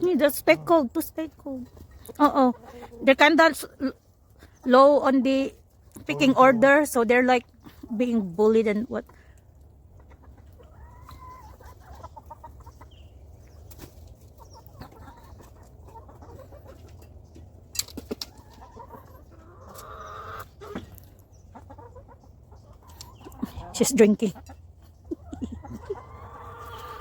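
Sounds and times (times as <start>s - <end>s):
hens clucking: 0.0s - 27.0s.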